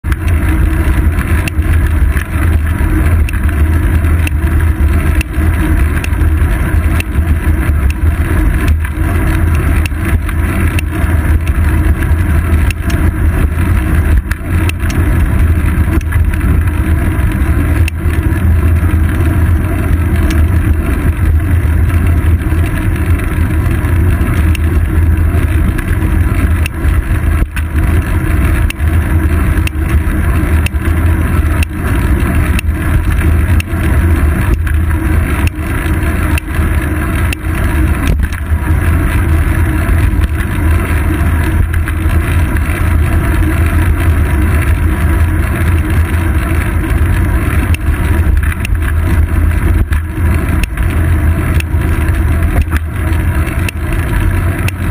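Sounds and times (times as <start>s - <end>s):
road vibration rumble: 0.0s - 54.9s.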